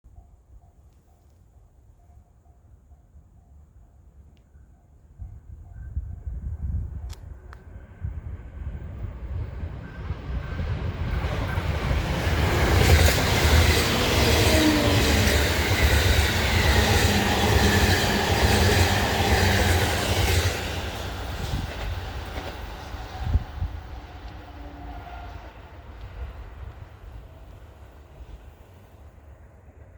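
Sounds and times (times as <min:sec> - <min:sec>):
electric train passing: 0:00.1 - 0:29.9.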